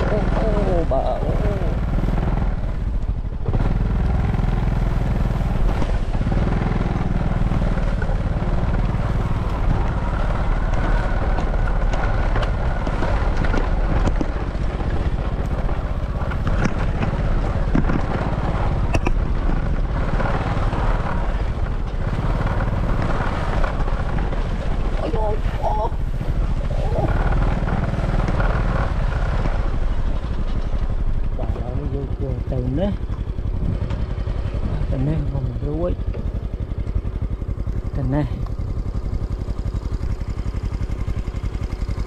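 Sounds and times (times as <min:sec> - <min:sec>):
small motorbike engine: 0:00.0 - 0:42.0.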